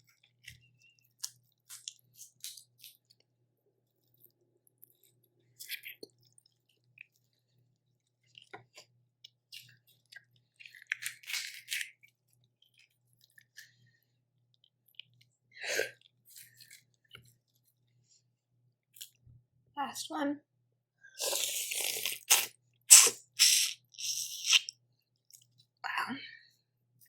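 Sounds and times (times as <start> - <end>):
chewing and crunching: 0.0 - 3.3, 3.9 - 17.9, 21.2 - 25.7.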